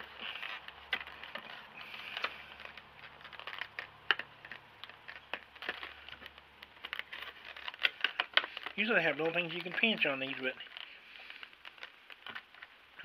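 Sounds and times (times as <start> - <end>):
plastic box clicking and rustling: 0.0 - 13.0.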